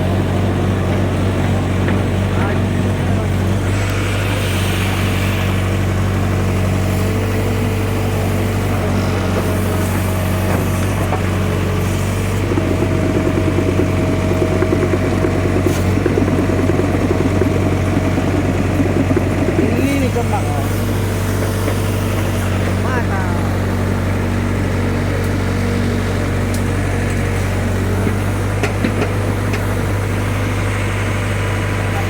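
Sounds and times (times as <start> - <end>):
backhoe diesel engine running: 0.0 - 32.0.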